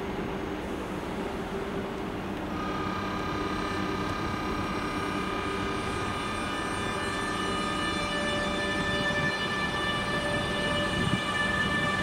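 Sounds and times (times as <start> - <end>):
electric train whine: 0.0 - 12.0.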